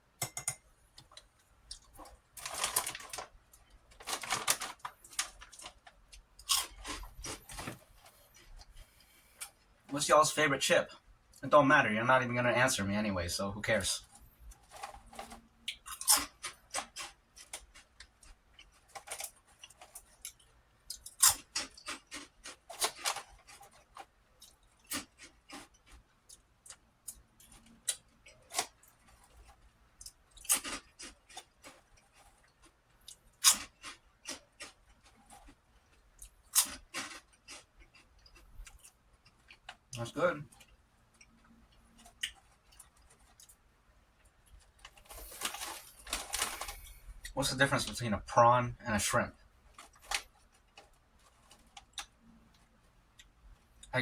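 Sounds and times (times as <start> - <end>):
person crunching crackers: 1.7 - 8.6, 14.0 - 43.7, 44.4 - 47.4, 49.7 - 53.6.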